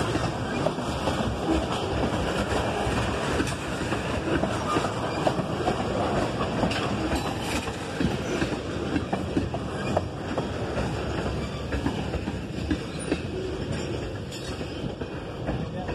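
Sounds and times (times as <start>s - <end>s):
freight train rail rumble: 0.0s - 15.9s
wheels clicking over rail joints: 0.0s - 15.9s.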